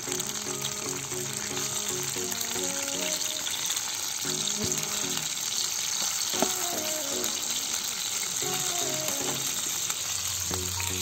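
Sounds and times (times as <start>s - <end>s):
background music: 0.0s - 11.0s
food sizzling in hot oil: 0.0s - 11.0s.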